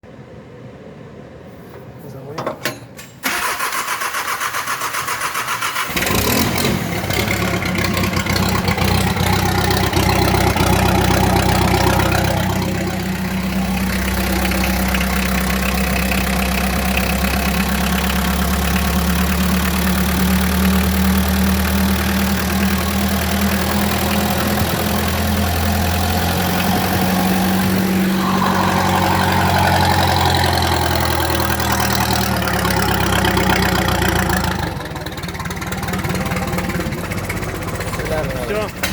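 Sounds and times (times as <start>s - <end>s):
diesel engine idling: 3.2s - 38.9s.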